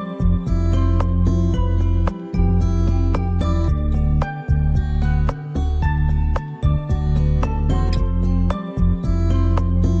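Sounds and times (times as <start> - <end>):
gentle background music: 0.0 - 10.0.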